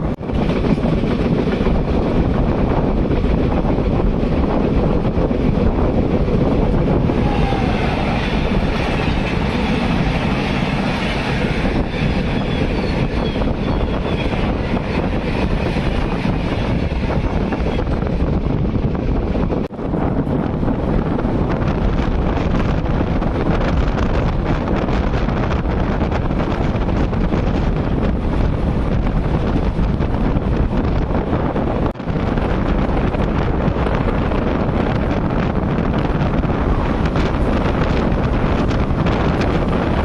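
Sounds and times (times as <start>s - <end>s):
fast train rumble: 0.0s - 40.0s
wind buffeting microphone: 0.0s - 40.0s.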